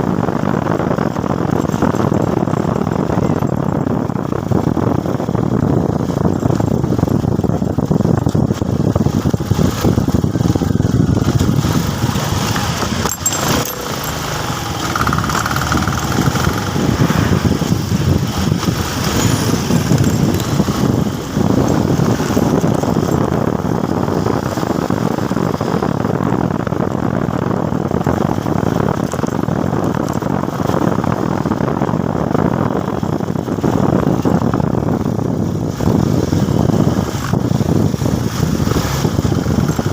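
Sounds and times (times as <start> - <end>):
motorcycle engine rumbling: 0.0 - 39.9
road noise: 0.0 - 39.9.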